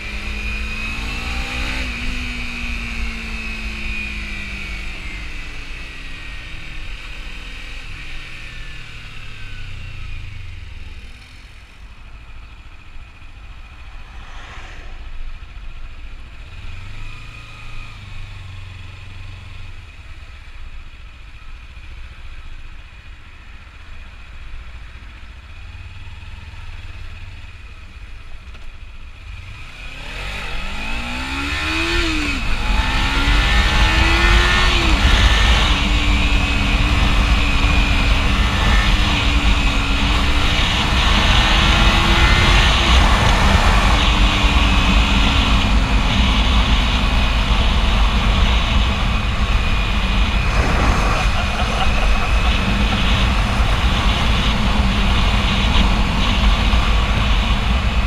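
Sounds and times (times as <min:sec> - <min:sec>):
motorcycle engine revving: 0:00.0 - 0:20.2, 0:29.2 - 0:58.0.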